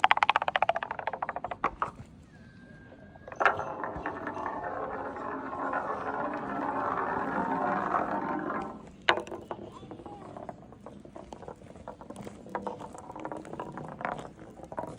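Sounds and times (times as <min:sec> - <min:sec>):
wooden mechanism clicking: 0:00.0 - 0:02.0, 0:03.2 - 0:14.9.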